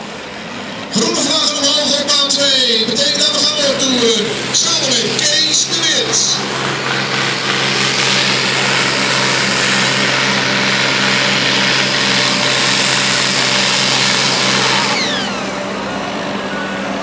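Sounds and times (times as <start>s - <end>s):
high engine whine: 0.0s - 17.0s
tractor diesel engine under load: 0.0s - 17.0s.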